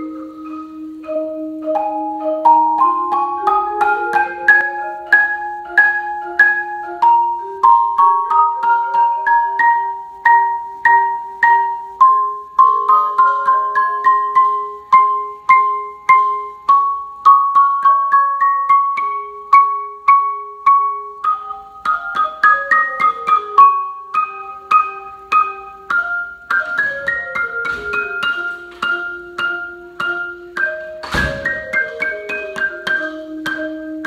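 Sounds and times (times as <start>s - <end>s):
marimba scale with accented notes: 0.0s - 34.0s.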